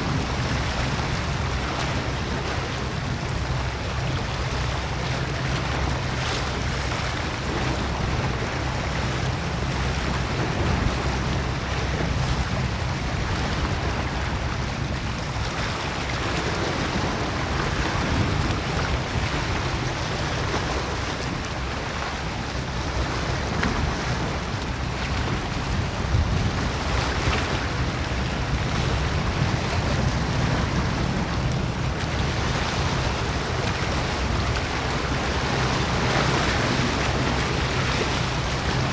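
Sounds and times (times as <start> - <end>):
sea waves washing: 0.0 - 38.9
wind rumbling on microphone: 0.0 - 38.9.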